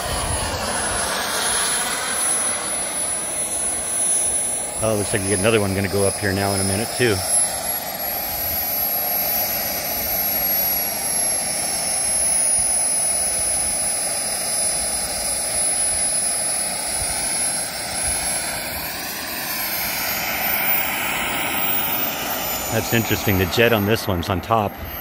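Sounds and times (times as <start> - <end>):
model jet turbine whine: 0.0 - 25.0.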